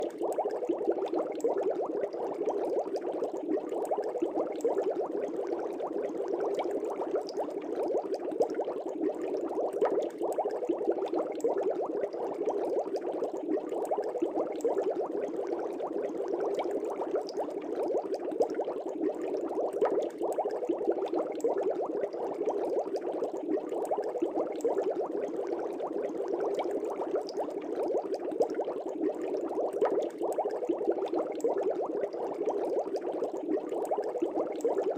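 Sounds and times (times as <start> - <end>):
fish tank air bubbling: 0.0 - 34.9.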